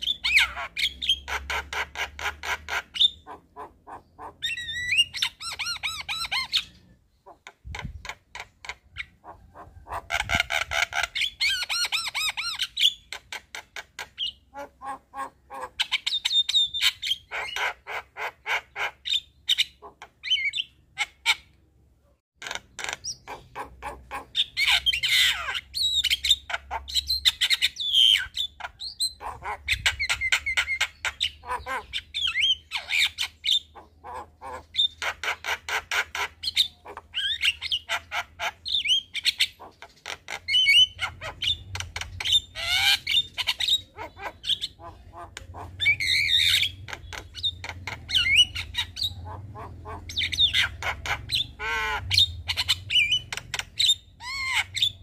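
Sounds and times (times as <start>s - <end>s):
bird chattering and squawking: 0.0s - 21.6s, 22.4s - 55.0s.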